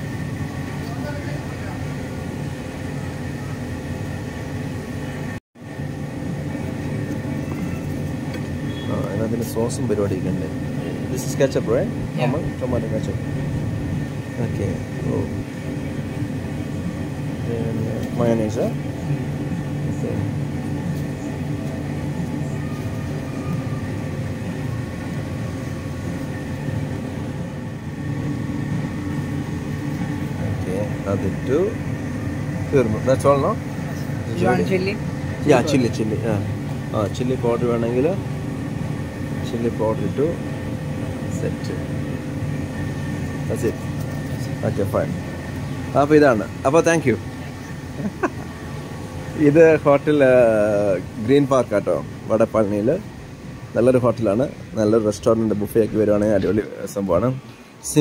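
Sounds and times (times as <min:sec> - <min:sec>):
kitchen machinery humming: 0:00.0 - 0:58.0.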